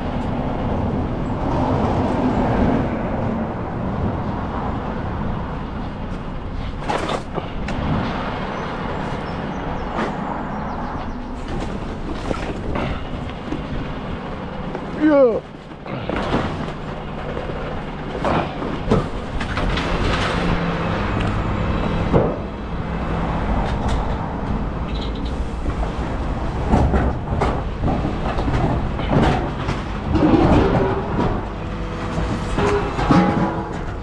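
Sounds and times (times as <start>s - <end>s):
truck engine drone: 0.0s - 34.0s
clanks and rattles: 5.8s - 34.0s.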